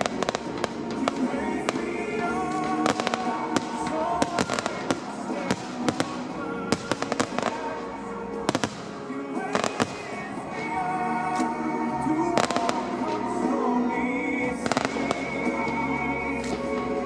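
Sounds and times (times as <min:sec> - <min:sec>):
fireworks exploding: 0:00.0 - 0:11.6, 0:12.3 - 0:13.7, 0:14.5 - 0:17.0
music: 0:00.0 - 0:17.0.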